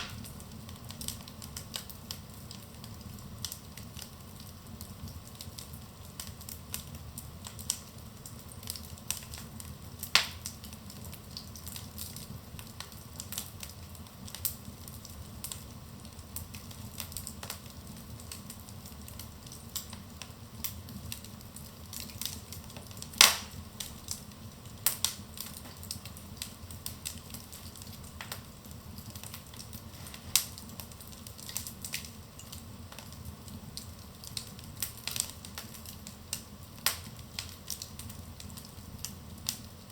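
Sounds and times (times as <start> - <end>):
burning logs crackling and popping: 0.0 - 39.9
fire flames rumbling: 0.0 - 39.9.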